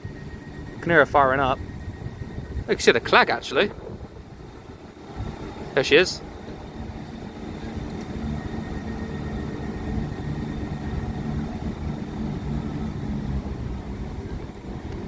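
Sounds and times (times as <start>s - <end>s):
diesel train engines droning: 0.0s - 15.0s.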